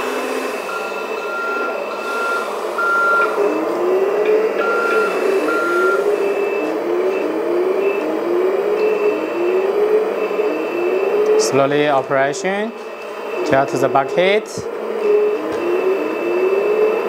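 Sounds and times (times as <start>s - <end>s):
electronic reversing alarm beeps: 0.0s - 17.0s
model machine running noise: 0.0s - 17.0s
repeating rising tone: 0.0s - 17.0s.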